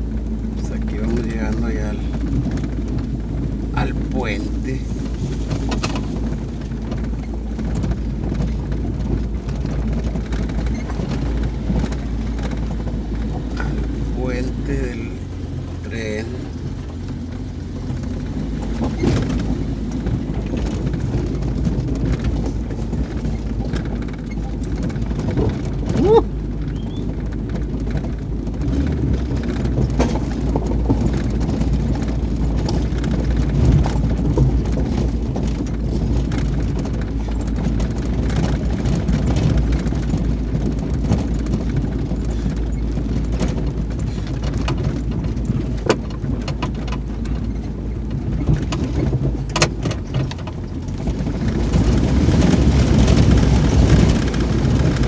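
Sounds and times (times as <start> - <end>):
truck engine and tyres rumbling: 0.0 - 55.0
tyres crunching on gravel: 0.0 - 55.0.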